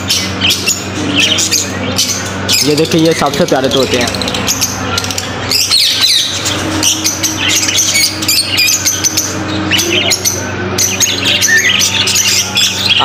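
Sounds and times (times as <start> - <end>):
parrots chirping and squawking: 0.0 - 13.0
steady low hum: 0.0 - 13.0.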